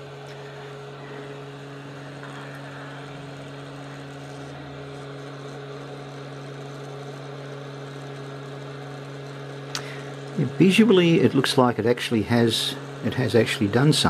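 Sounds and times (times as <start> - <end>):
hot air blower humming: 0.0 - 14.0.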